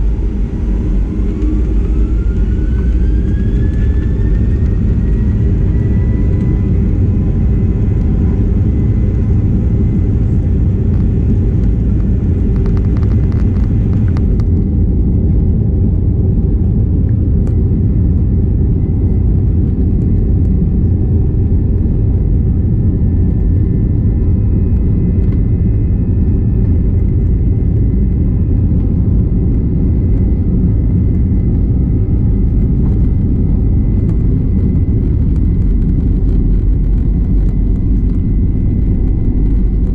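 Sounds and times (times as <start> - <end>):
faint engine tones: 0.0 - 39.9
jet engine cabin rumble: 0.0 - 39.9.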